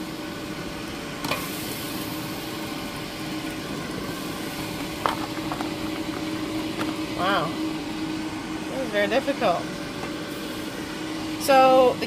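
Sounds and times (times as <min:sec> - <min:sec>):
air fryer fan hum: 0:00.0 - 0:12.0.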